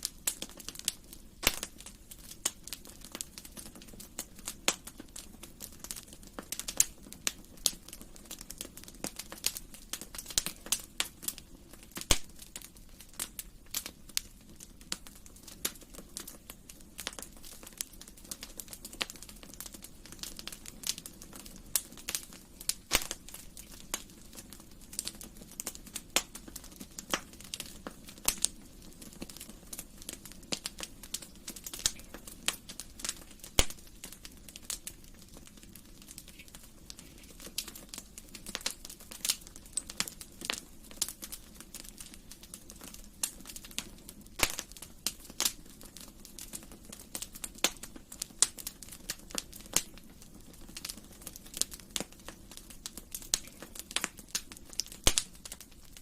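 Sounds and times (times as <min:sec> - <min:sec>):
hiss of flames: 0:00.0 - 0:45.6
wood fire crackling: 0:00.0 - 0:56.0.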